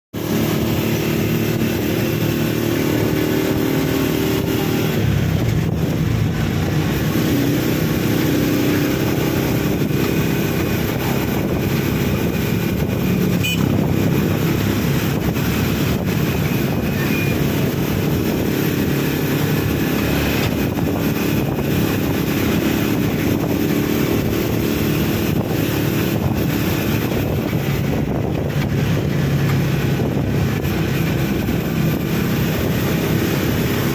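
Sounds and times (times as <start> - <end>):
vehicle engine running: 0.1 - 33.9.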